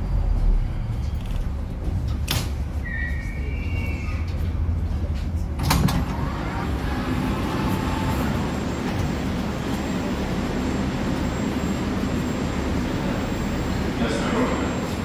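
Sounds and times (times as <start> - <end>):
metro car low hum: 0.0 - 15.0.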